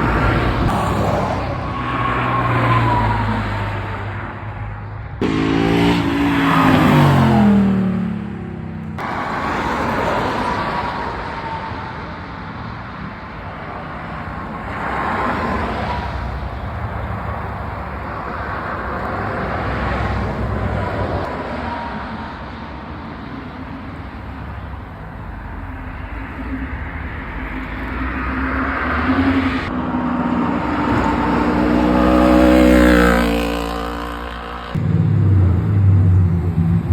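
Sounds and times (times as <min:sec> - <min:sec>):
cars driving by: 0:00.0 - 0:36.9.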